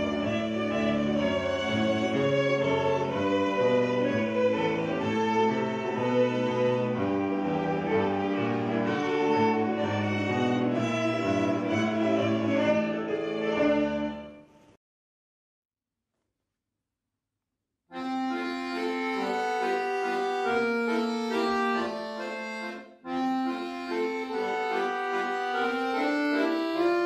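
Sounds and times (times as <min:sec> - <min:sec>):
violin ensemble playing: 0:00.0 - 0:14.4, 0:18.0 - 0:27.0.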